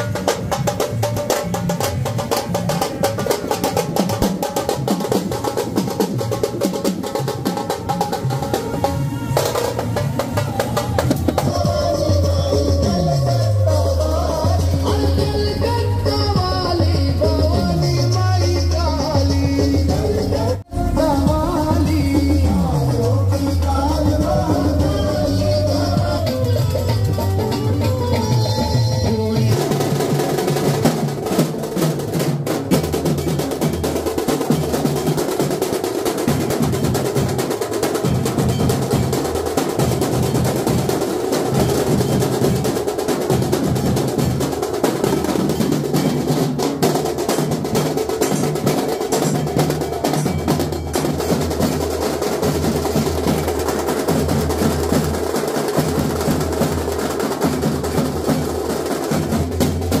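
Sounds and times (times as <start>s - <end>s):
procession drumming: 0.0s - 60.0s.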